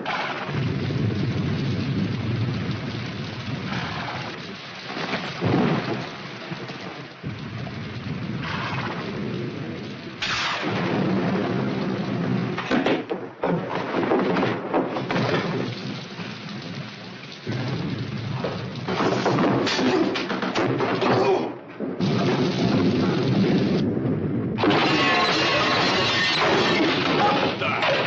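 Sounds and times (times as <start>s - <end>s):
heavy rain: 0.0s - 28.0s
rolling thunder: 0.0s - 28.0s.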